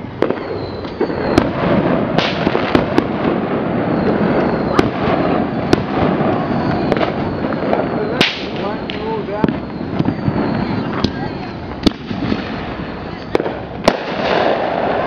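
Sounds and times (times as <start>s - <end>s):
firecrackers crackling: 0.0s - 15.0s
firework bangs: 0.0s - 15.0s.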